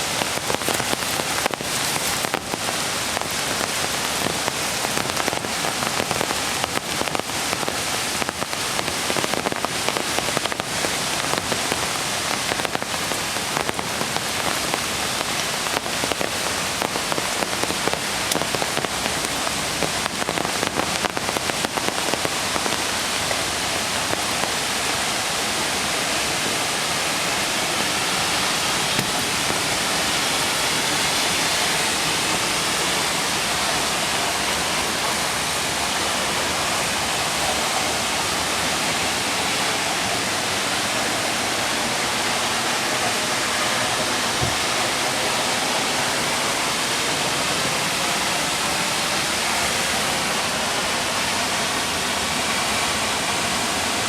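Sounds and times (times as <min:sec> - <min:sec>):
flowing creek water: 0:00.0 - 0:54.0
rain pattering: 0:00.0 - 0:54.0.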